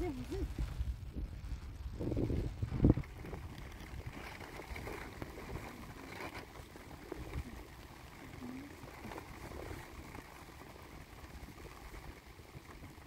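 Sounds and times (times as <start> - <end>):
faint rustles: 0.0 - 13.0
wind buffeting microphone: 0.0 - 13.0.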